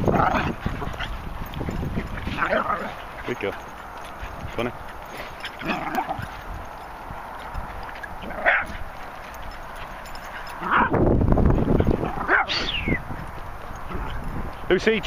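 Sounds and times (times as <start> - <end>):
dogs barking and yipping: 0.0 - 14.7.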